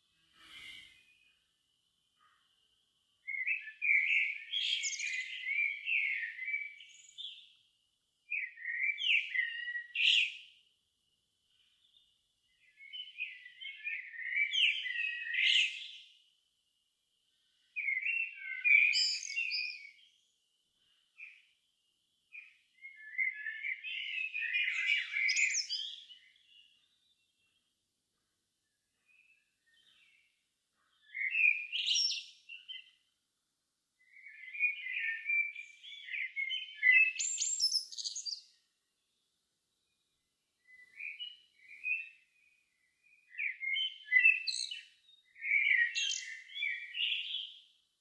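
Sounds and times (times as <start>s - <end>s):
songbird singing: 0.0s - 33.2s, 33.9s - 48.0s.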